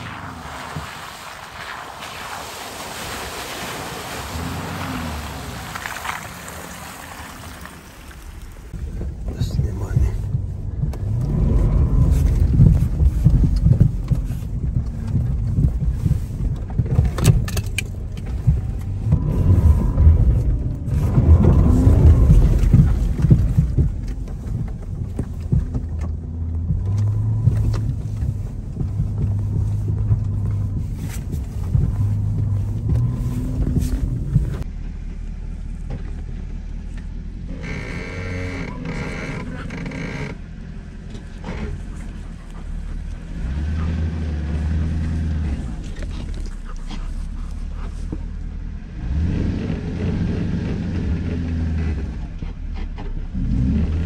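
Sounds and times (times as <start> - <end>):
car driving on rough track: 0.0 - 54.0.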